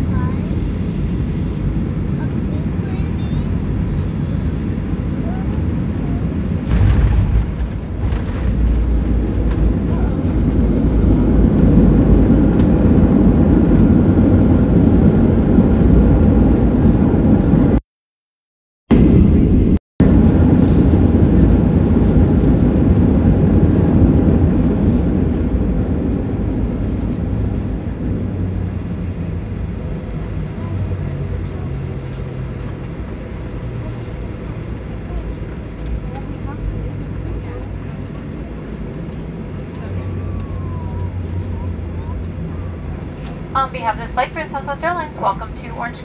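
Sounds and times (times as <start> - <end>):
jet engines and wheels rumbling: 0.0 - 17.8, 18.9 - 46.0
low engine hum: 0.0 - 17.8, 18.9 - 46.0.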